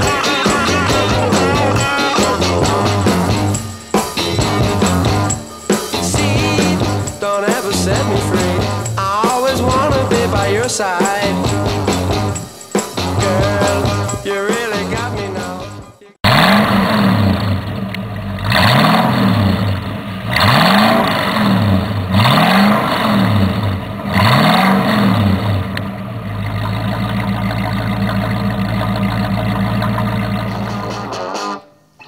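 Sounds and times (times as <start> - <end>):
car engine idling: 0.0 - 14.1, 15.0 - 31.1
car engine revving: 0.0 - 14.2, 15.0 - 31.2.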